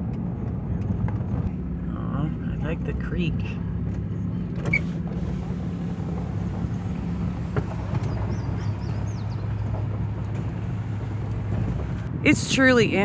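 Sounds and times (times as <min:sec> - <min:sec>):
pickup engine hum from inside: 0:00.0 - 0:12.7.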